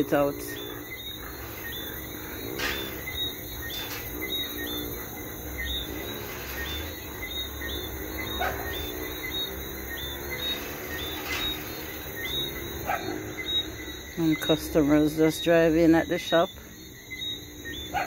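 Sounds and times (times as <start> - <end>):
crickets and insects chirping: 0.0 - 18.0.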